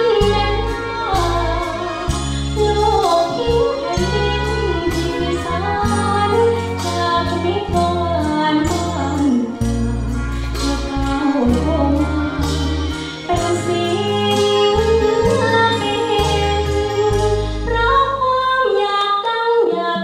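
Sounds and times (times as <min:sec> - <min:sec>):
backing track with bass notes: 0:00.0 - 0:18.8
woman singing into a microphone: 0:00.0 - 0:20.0.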